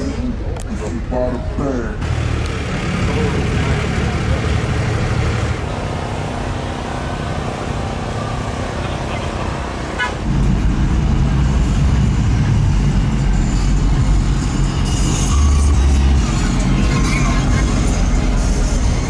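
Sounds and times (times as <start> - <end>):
low engine rumble of cars: 0.0 - 19.0
outdoor vehicle noise: 0.0 - 19.0.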